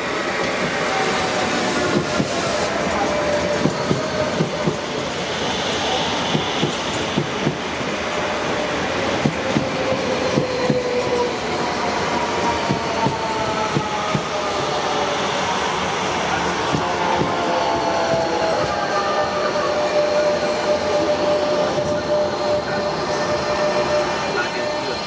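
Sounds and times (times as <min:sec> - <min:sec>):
faint train whine: 0:00.0 - 0:25.0.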